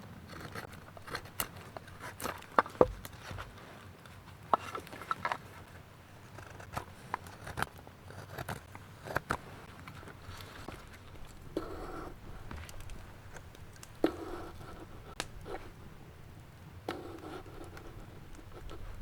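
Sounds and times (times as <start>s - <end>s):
knife carving wood: 0.2s - 16.0s, 16.8s - 19.0s.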